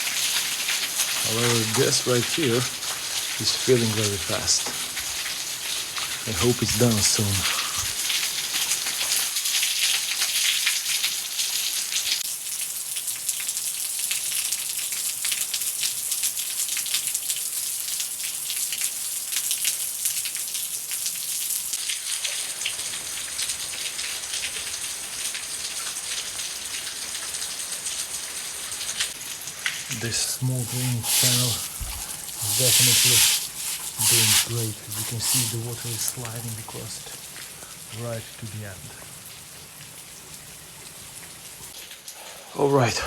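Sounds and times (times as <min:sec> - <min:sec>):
rain pattering and splashing: 0:00.0 - 0:43.0.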